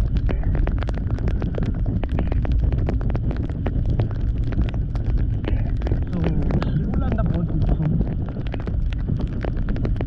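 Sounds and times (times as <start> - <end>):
raindrops ticking on camera: 0.0 - 10.0
wind rumble on microphone: 0.0 - 10.0.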